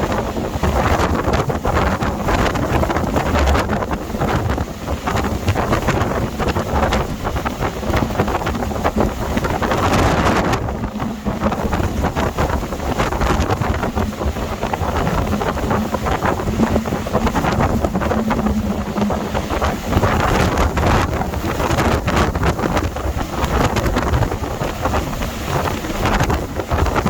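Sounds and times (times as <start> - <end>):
gale wind buffeting microphone: 0.0 - 27.0.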